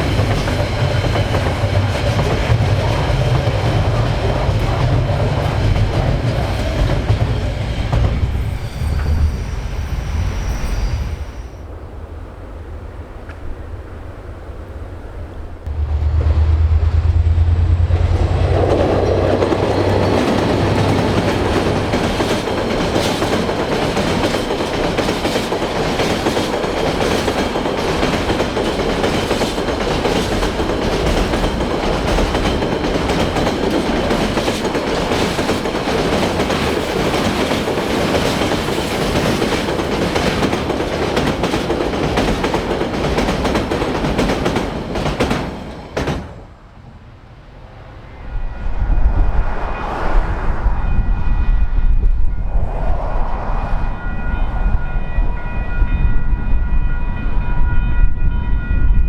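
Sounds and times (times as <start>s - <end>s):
diesel locomotive engine hum: 0.0s - 58.3s.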